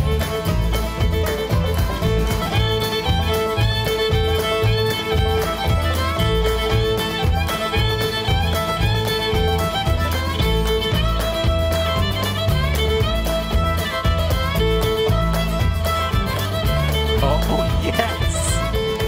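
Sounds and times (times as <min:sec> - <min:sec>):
upbeat bluegrass music: 0:00.0 - 0:19.0.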